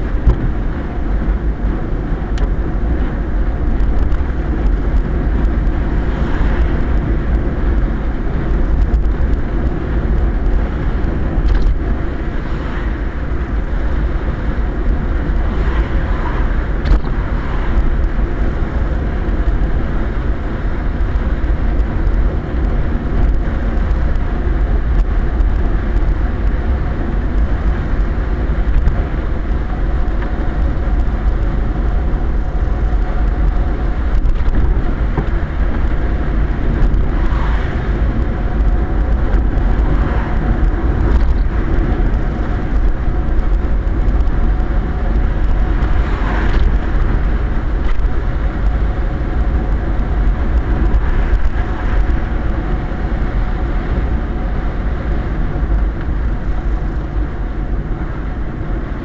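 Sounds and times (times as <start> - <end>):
tyres rumbling on road: 0.0 - 59.0.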